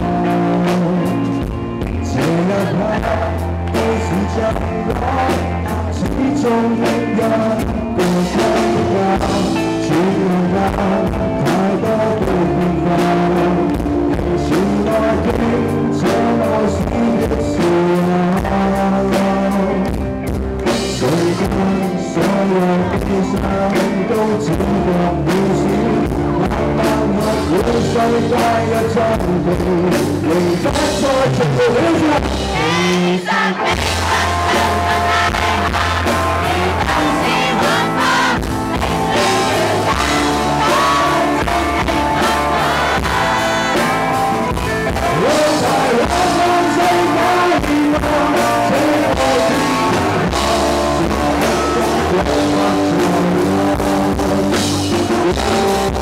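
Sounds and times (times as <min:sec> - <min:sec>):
man singing: 0:00.0 - 0:56.0
rock band playing: 0:00.0 - 0:56.0.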